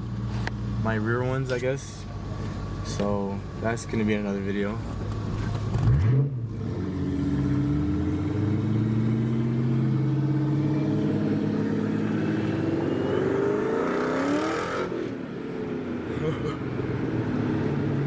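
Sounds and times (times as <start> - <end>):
car engine from inside cabin: 0.0 - 18.0
road noise: 0.0 - 18.0.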